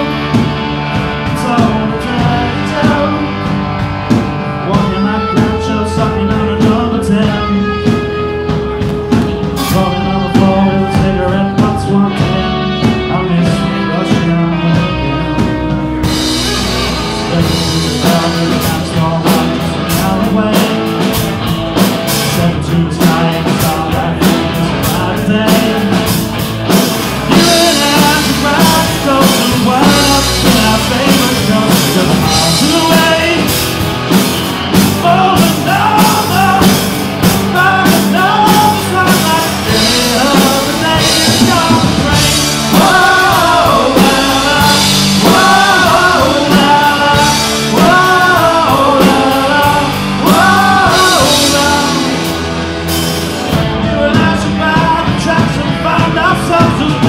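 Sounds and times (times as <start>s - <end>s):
lead vocals: 0.0s - 57.0s
live rock band playing: 0.0s - 57.0s.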